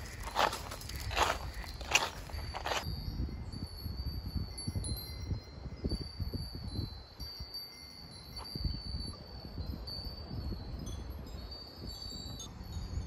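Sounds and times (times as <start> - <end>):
wind chimes tinkling: 0.0 - 13.0.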